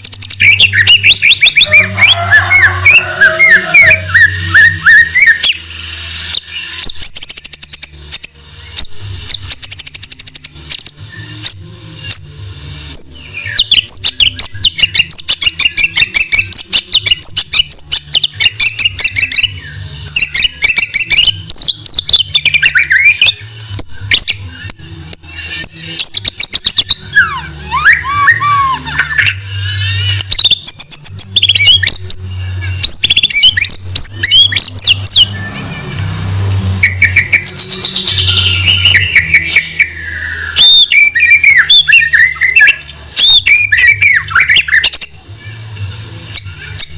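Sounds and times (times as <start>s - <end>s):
bird singing varied song: 0.0s - 46.9s.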